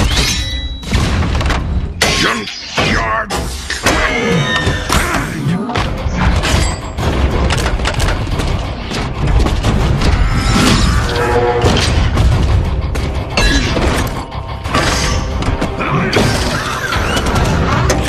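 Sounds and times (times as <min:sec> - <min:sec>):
film music score: 0:00.0 - 0:18.0.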